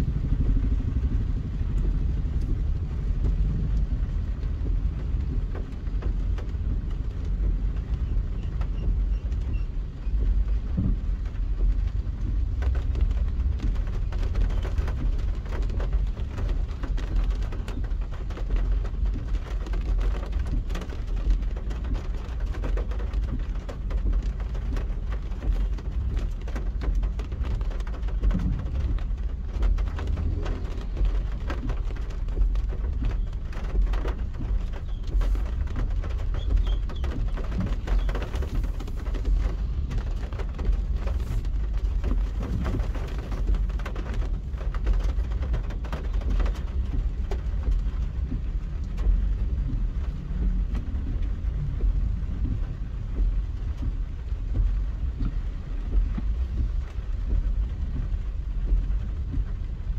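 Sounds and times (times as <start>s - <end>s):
engine and road rumble: 0.0s - 59.9s
rain ticking on a car: 0.0s - 59.9s.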